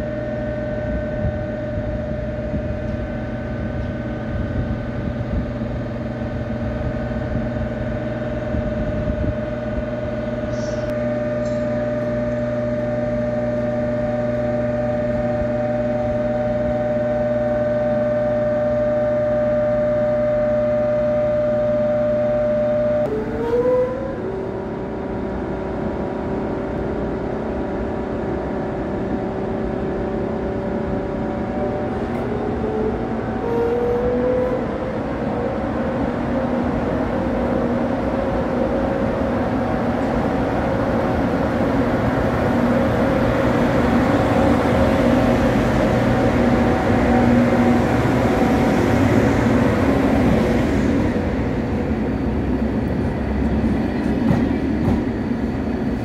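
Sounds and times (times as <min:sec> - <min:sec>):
train electrical hum and whine: 0:00.0 - 0:56.0.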